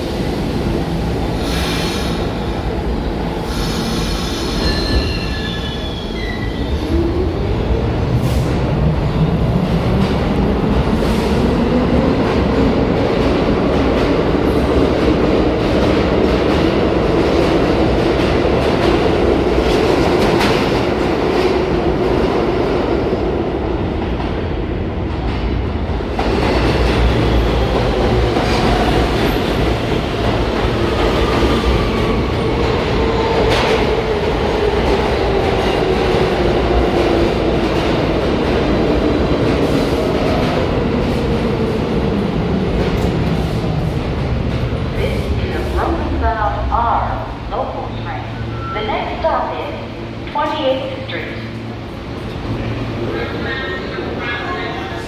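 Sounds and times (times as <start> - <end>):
subway train motors whining: 0.0 - 55.0.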